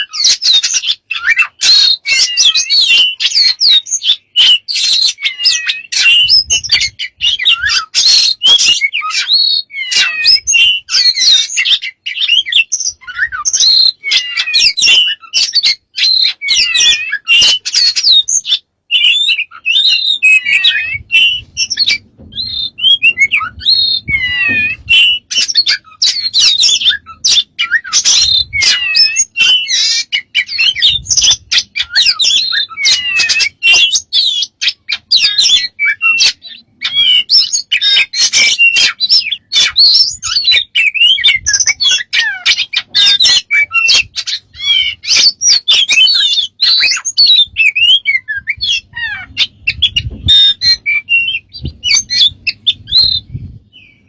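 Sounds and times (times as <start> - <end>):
pet bird chirping and squawking: 0.0 - 54.0.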